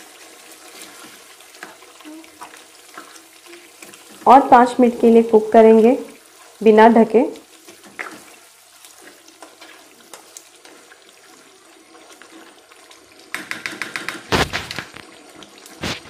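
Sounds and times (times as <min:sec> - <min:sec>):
gravy bubbling and sizzling: 0:00.0 - 0:16.0.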